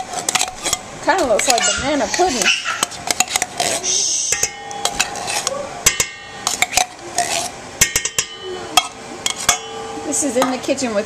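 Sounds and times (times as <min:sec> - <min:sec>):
utensil clinking on metal bowl: 0:00.2 - 0:11.0.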